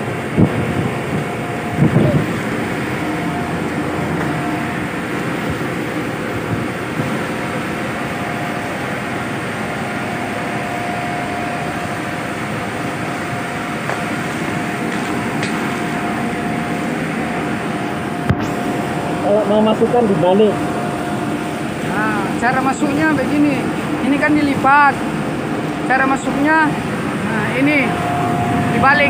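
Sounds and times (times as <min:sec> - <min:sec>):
ship machinery droning: 0:00.0 - 0:29.0.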